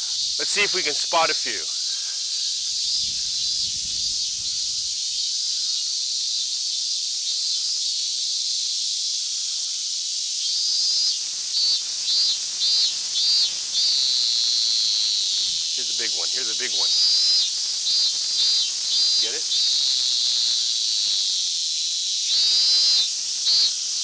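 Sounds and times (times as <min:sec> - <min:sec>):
cicadas chorus hissing: 0:00.0 - 0:24.0
pulsing insect call: 0:00.0 - 0:24.0.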